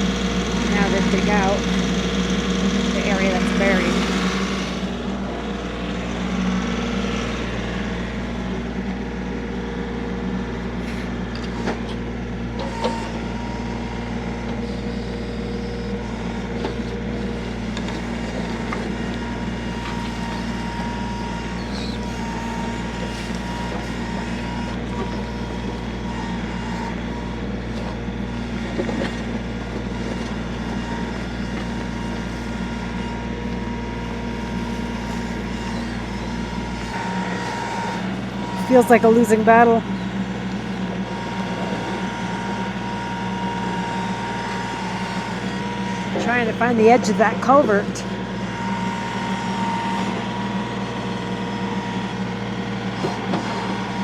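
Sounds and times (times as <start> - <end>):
digging machine engine running: 0.0 - 54.0.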